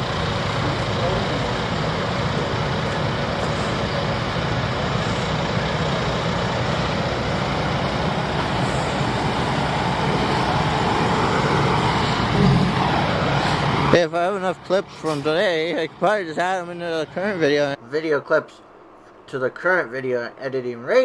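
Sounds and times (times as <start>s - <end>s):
dump truck diesel engine: 0.0s - 21.0s.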